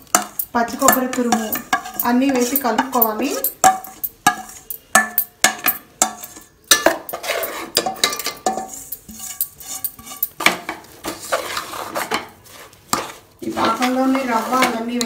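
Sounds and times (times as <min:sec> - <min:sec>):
steel spoon scraping a bowl: 0:00.0 - 0:10.5, 0:11.1 - 0:15.0.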